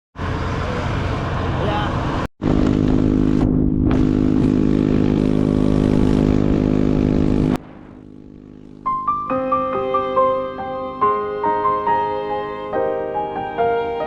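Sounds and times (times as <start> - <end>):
small vehicle engine running: 0.2 - 12.7.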